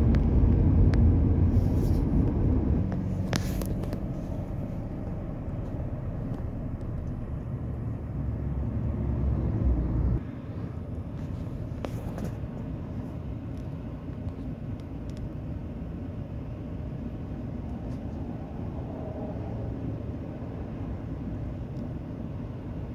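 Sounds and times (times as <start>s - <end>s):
vehicle engine rumble: 0.0s - 22.9s.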